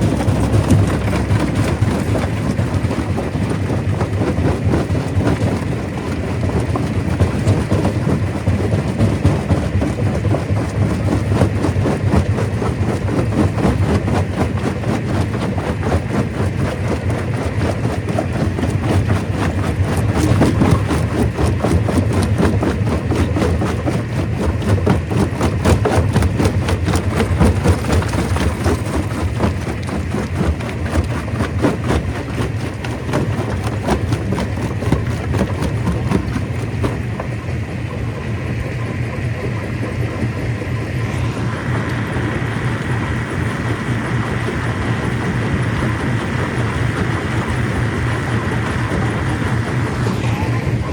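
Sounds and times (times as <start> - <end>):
stone crusher machine drone: 0.0 - 50.9.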